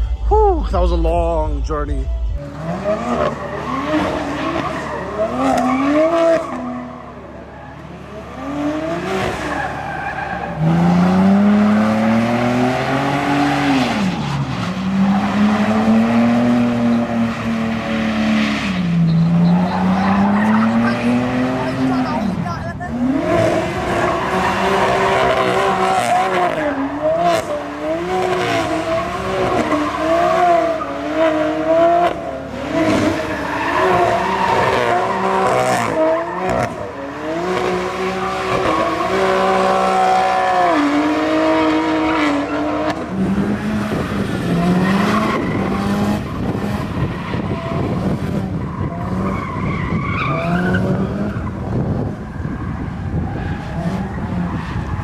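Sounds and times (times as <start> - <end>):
lower-pitched engine: 0.0 - 55.0
sports car engines revving: 0.0 - 55.0.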